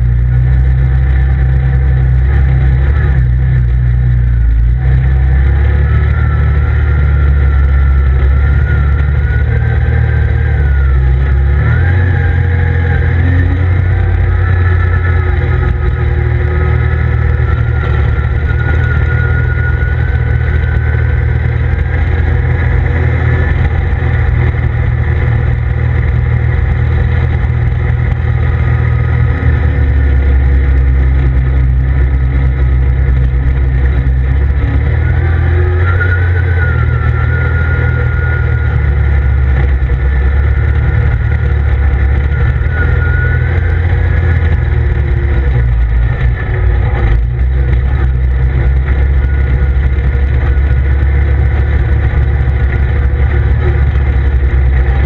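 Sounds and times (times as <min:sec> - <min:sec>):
engine droning: 0:00.0 - 0:55.0
faint high whine: 0:00.0 - 0:55.0.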